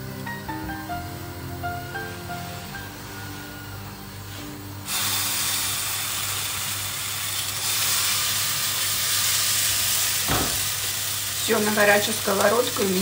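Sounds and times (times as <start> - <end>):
oil sizzling in a frying pan: 0.2 - 13.0.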